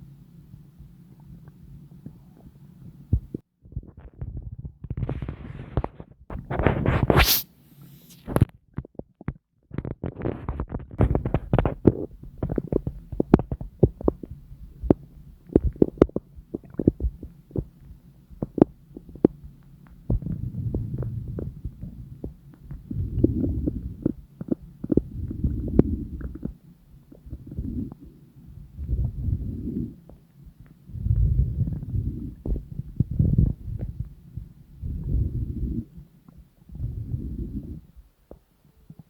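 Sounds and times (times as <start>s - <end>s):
low stomach rumbling: 0.0s - 7.2s, 8.2s - 39.0s
stomach gurgling: 0.5s - 39.0s.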